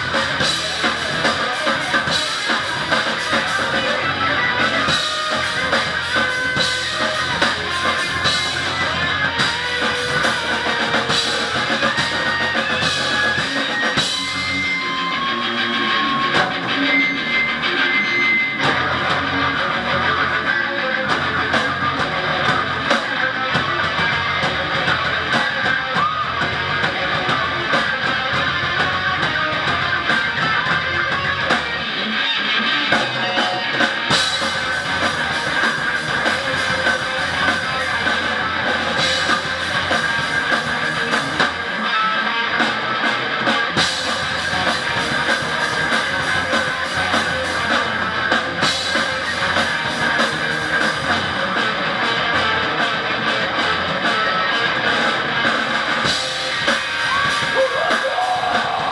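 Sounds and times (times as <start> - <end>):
bass guitar: 0.0 - 58.9
drum kit: 0.0 - 58.9
electric guitars: 0.0 - 58.9.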